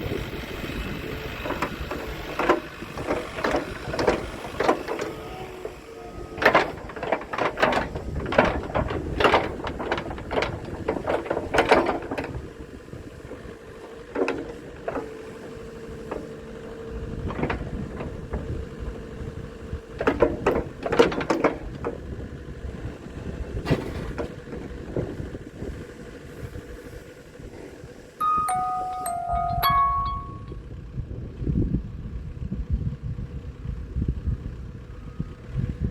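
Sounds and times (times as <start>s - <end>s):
excavator engine running: 0.0s - 31.3s.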